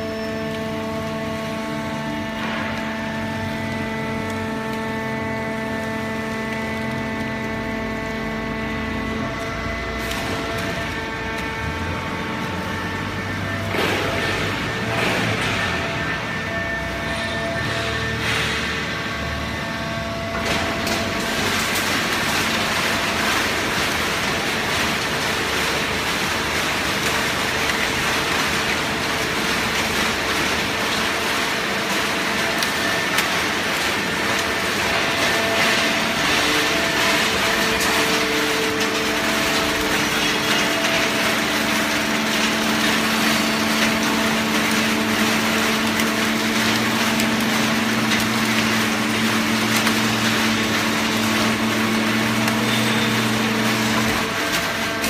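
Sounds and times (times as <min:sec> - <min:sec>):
deeper hum: 0:00.0 - 0:55.0
hydraulic baler machinery din: 0:00.0 - 0:55.0
hydraulic pump motor hum: 0:00.0 - 0:55.0.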